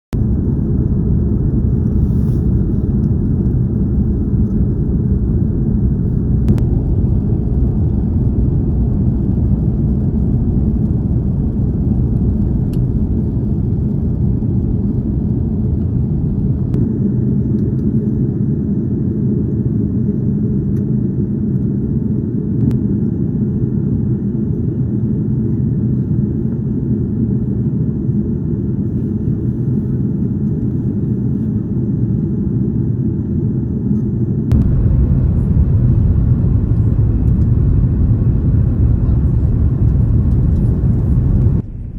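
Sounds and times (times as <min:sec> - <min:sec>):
airliner cabin engine rumble: 0:00.1 - 0:41.9.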